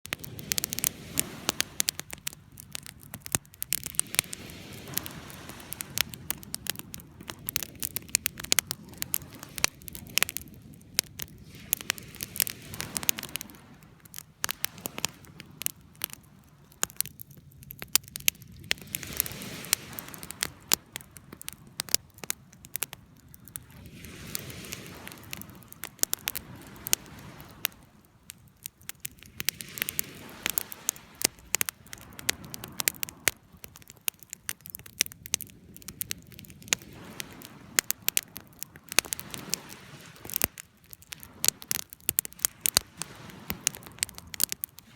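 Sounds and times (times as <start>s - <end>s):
flames rushing: 0.0s - 44.8s
bonfire pops and snaps: 0.0s - 44.9s.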